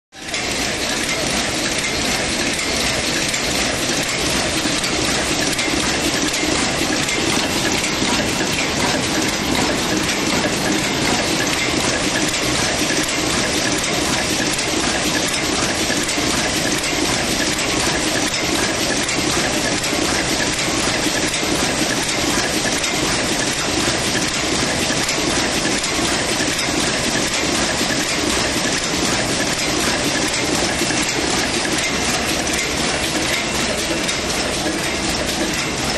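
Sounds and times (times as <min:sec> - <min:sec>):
machine running at high speed: 0:00.2 - 0:35.9.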